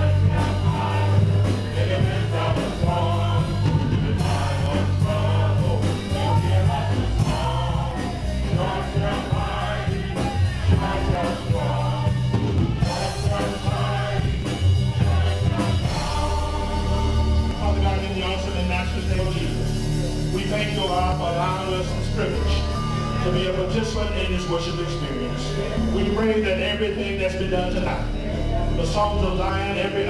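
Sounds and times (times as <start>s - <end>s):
bass and drums: 0.0s - 30.0s
church band playing: 0.0s - 30.0s
congregation singing gospel song: 0.0s - 30.0s.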